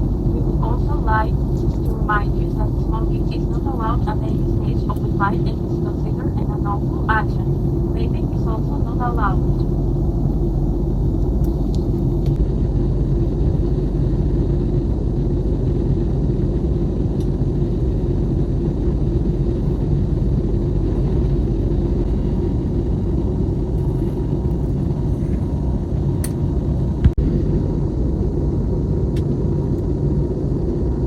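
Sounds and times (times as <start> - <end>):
low cabin rumble: 0.0 - 31.0.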